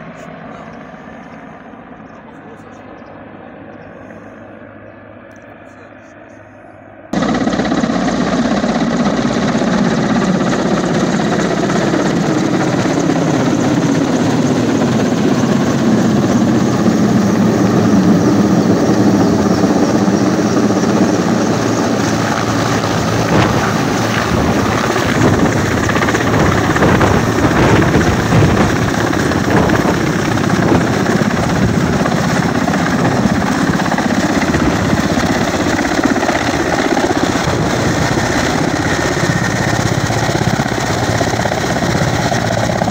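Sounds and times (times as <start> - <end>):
helicopter flying overhead: 0.0 - 42.9
rotor blades beating: 7.2 - 42.9.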